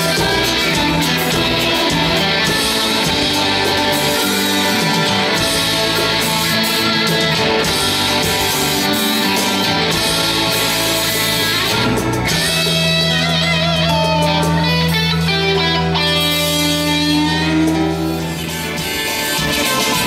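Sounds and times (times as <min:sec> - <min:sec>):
electric guitar with vibrato: 0:00.0 - 0:20.0
rock band playing: 0:00.0 - 0:20.0.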